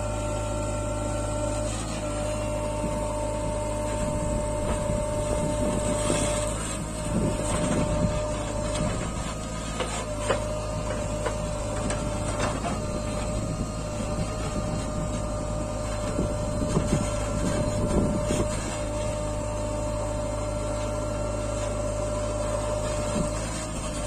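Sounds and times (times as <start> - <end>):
diesel engine under load: 0.0 - 24.0
hydraulic whine: 0.0 - 24.0.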